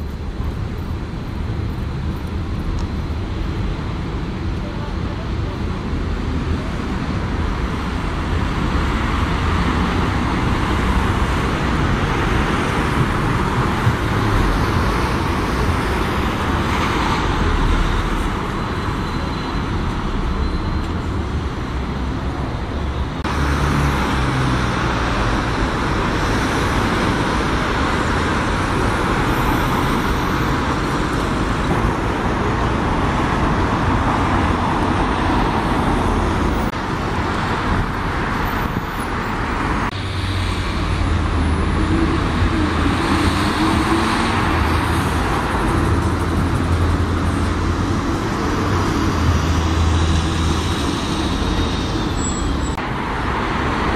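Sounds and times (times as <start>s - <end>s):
cars and buses passing: 0.0s - 53.9s.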